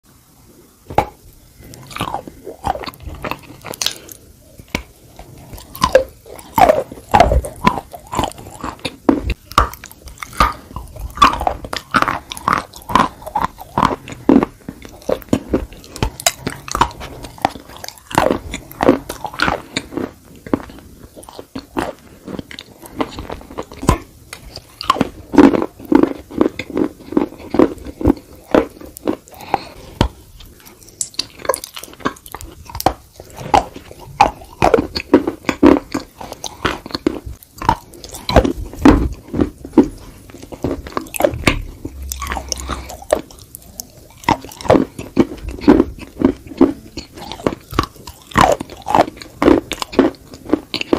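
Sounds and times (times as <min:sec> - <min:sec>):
crunchy chewing of clay: 0:00.9 - 0:50.9.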